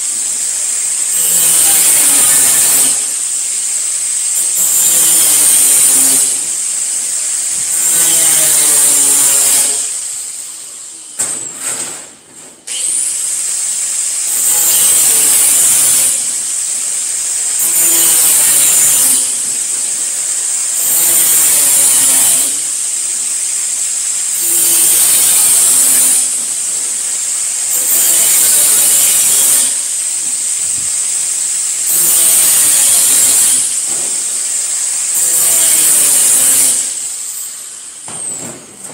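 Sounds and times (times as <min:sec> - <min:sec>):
angle grinder cutting sheet metal: 0:00.0 - 0:38.9.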